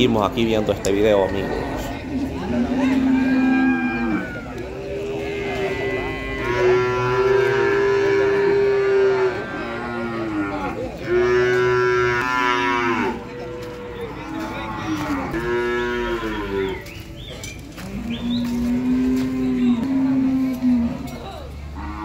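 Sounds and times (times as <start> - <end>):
cattle mooing: 1.2 - 16.8, 17.8 - 21.1, 21.7 - 22.0.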